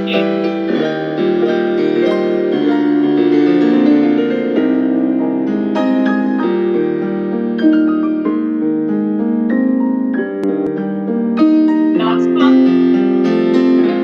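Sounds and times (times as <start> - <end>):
solo piano chords: 0.0 - 14.0.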